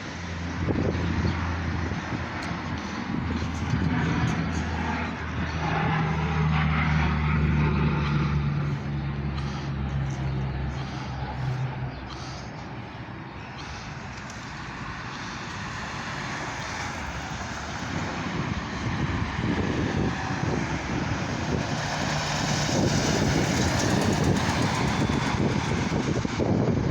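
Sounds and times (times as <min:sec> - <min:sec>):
turboprop engines rumbling: 0:00.0 - 0:26.9.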